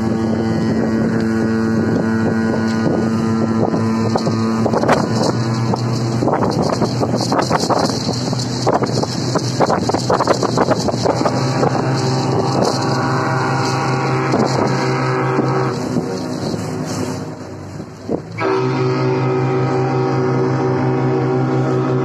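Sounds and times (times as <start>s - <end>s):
hull slapping on water: 0.0s - 18.9s
outboard motor humming: 0.0s - 22.0s
wind buffeting microphone: 0.0s - 22.0s.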